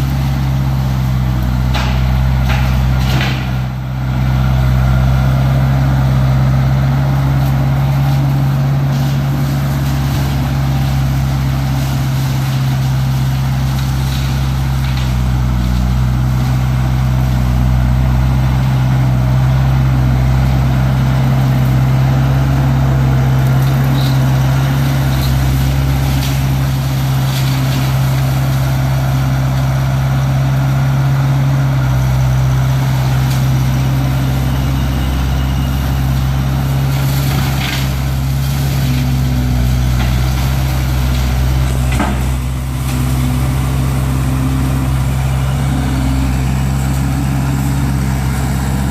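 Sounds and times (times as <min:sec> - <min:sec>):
hydraulic brush cutter in brush: 0:00.0 - 0:31.0, 0:31.8 - 0:48.9
diesel engine running: 0:00.0 - 0:48.9.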